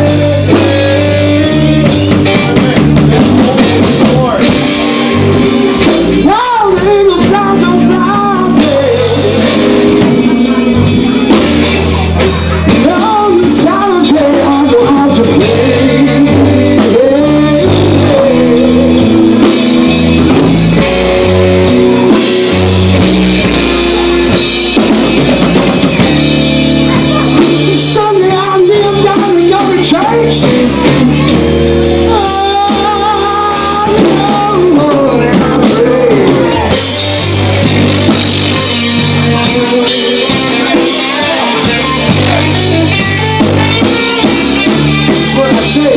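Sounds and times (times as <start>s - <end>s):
bending electric guitar lead: 0.0s - 45.9s
live rock band playing: 0.0s - 45.9s.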